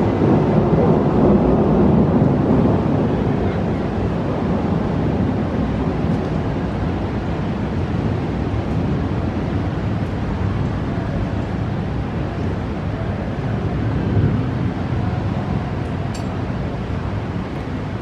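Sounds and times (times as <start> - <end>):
thunderstorm: 0.0 - 18.0.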